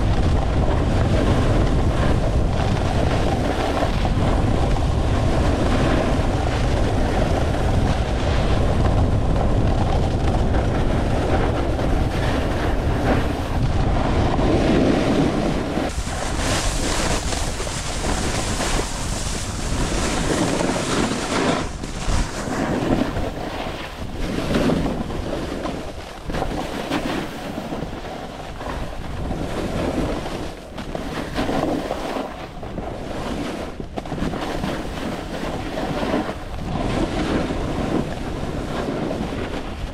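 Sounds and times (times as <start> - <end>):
snowboard scraping over snow: 0.0 - 39.9
wind buffeting microphone: 0.0 - 39.9.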